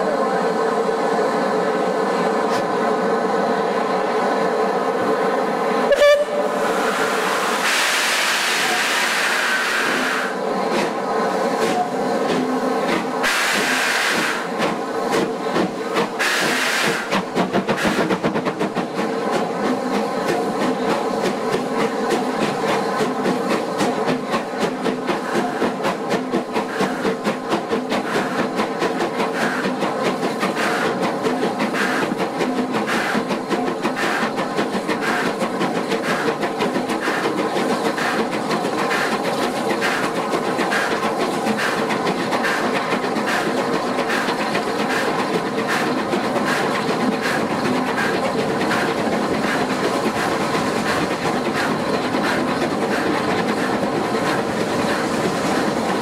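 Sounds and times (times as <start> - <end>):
train wheels clickety-clack: 2.5 - 2.8, 5.9 - 56.0.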